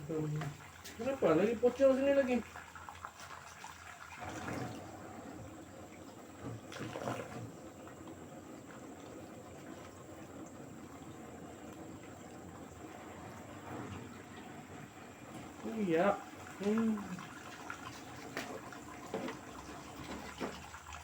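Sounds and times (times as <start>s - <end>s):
washing machine water sounds: 0.0s - 21.0s.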